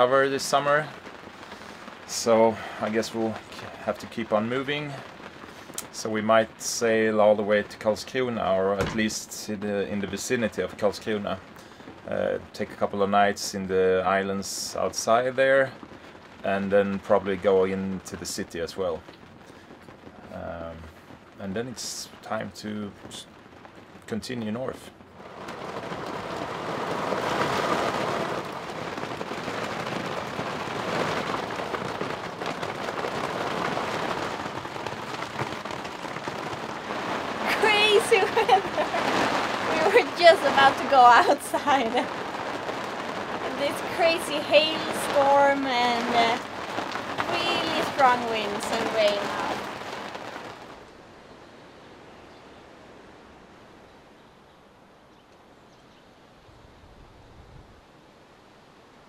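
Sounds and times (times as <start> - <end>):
hail and heavy rain clattering: 0.0 - 50.9
faint outdoor hiss: 0.0 - 59.0.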